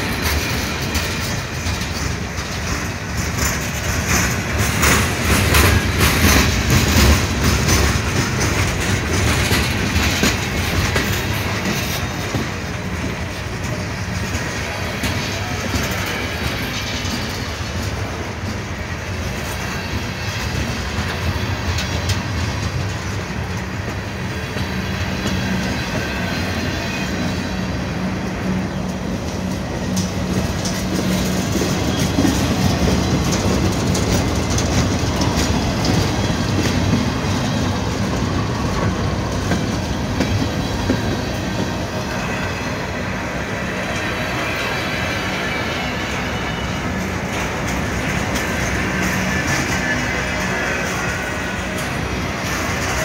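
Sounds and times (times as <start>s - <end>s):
steel wheels rumbling on rail: 0.0s - 53.0s
wheels clicking over rail joints: 0.0s - 53.0s.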